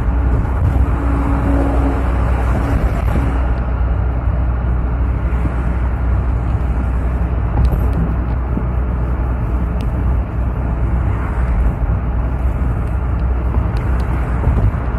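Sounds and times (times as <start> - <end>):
engine drone inside cab: 0.0 - 14.9.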